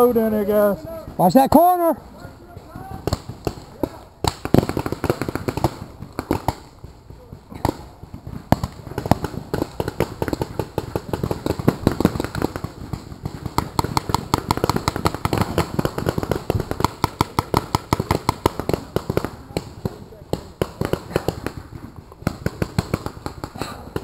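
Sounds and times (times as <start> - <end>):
paintball markers firing: 2.6 - 24.0.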